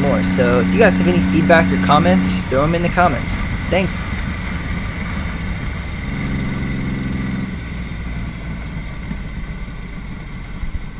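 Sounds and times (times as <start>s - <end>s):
motorcycle engine running: 0.0s - 10.9s
road and wind noise: 0.0s - 10.9s.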